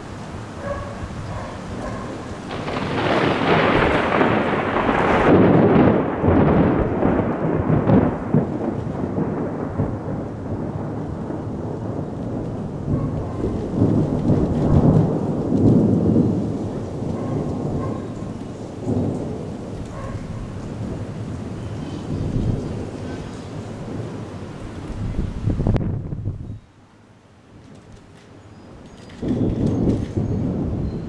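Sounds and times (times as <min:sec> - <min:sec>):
rolling thunder: 0:00.0 - 0:26.6, 0:29.0 - 0:31.0.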